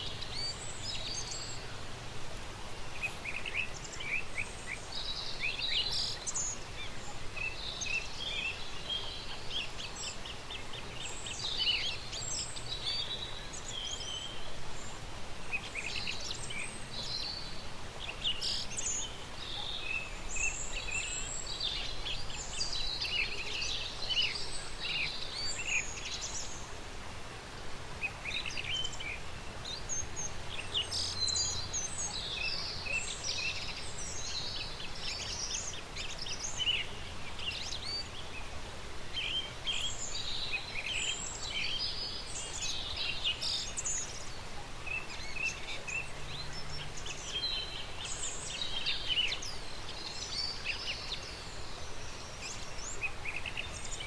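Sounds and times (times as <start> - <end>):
soft background hiss: 0.0 - 54.0.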